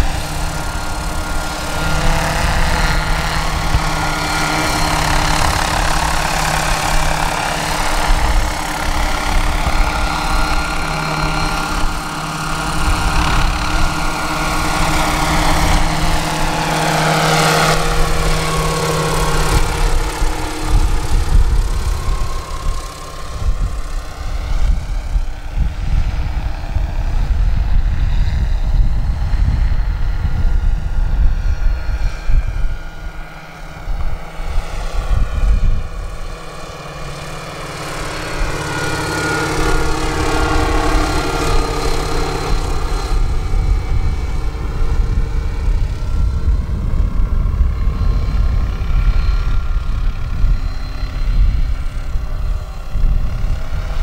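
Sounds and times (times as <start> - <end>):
model helicopter whine: 0.0 - 54.0.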